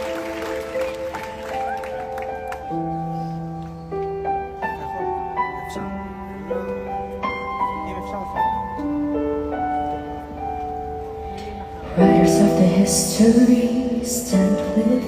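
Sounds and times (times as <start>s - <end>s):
faint crowd noise: 0.0s - 15.0s
slow piano notes: 0.0s - 15.0s.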